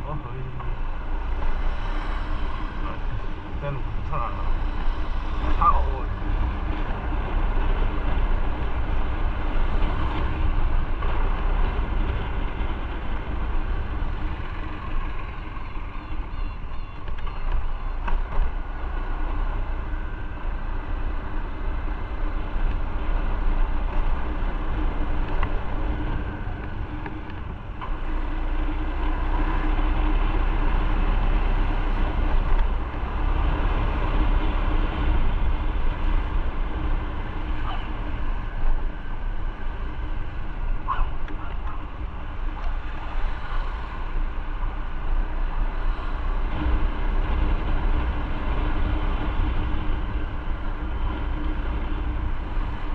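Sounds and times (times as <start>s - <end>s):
heavy low rumble: 0.0s - 52.9s
motorcycle engine riding: 2.6s - 16.3s, 17.0s - 52.9s.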